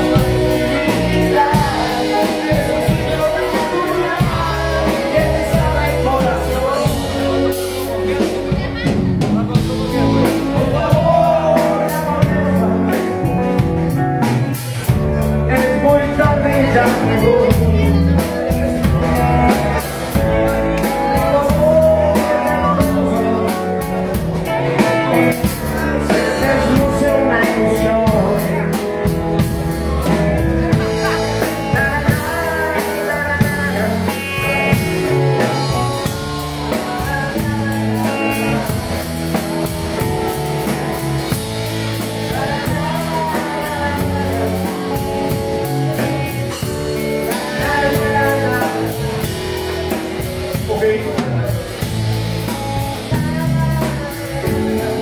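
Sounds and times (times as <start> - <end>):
drum kit: 0.0 - 55.0
electric bass: 0.0 - 55.0
electric guitars: 0.0 - 55.0
keyboard: 0.0 - 55.0.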